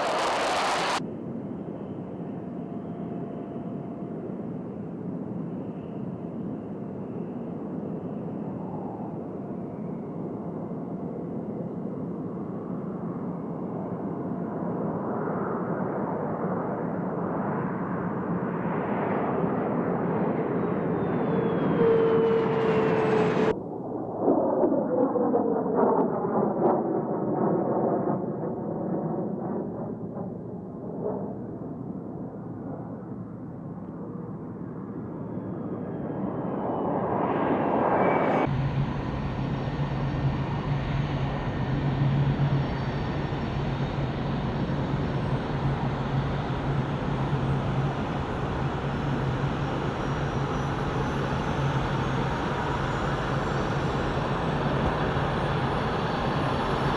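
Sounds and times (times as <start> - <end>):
jet engine drone: 0.0 - 56.9.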